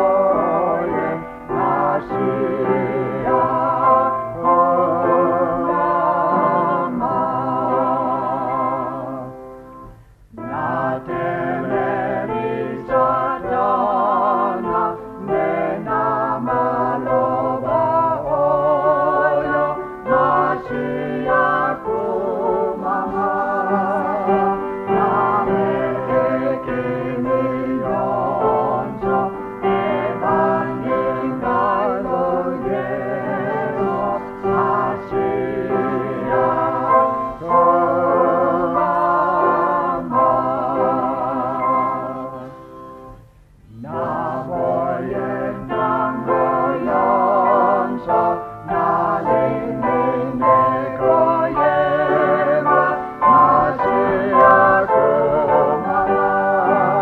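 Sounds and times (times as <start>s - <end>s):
voices singing a hymn: 0.0s - 57.0s.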